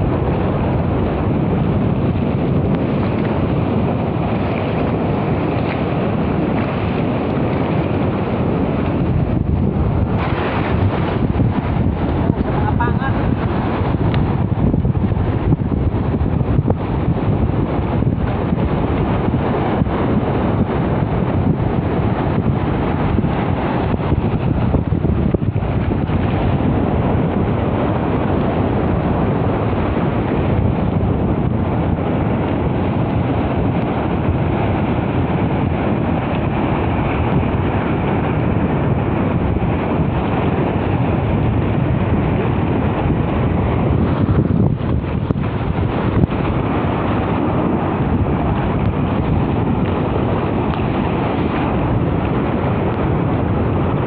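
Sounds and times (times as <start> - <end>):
shallow sea water washing: 0.0 - 54.0
wind buffeting microphone: 0.0 - 54.0.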